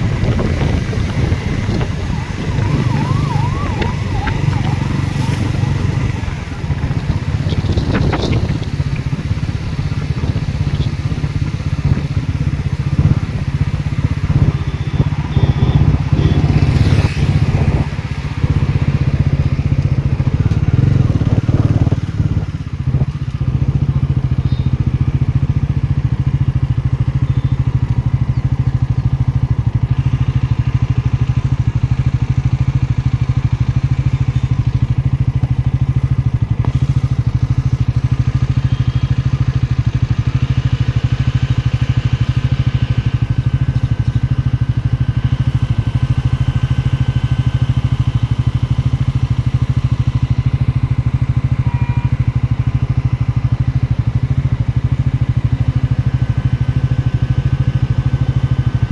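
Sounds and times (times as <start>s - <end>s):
engine knocks: 0.0s - 58.9s
motorcycle engine running: 0.0s - 58.9s.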